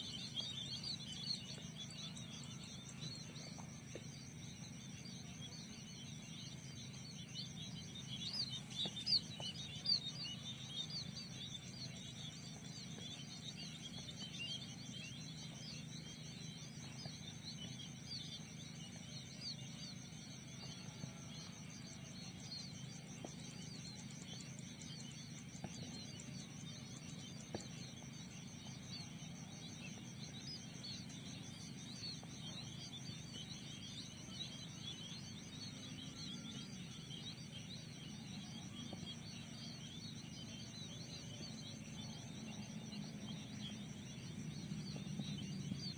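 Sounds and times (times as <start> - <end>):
high pulsing insect drone: 0.0 - 45.9
small birds chirping: 0.0 - 45.9.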